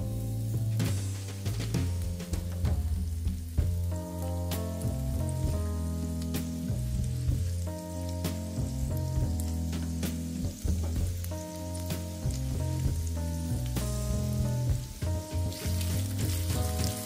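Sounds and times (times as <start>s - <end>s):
background music with bass line: 0.0s - 17.0s
garlic sizzling in oil: 0.0s - 17.0s
sharp crackles: 0.0s - 17.0s.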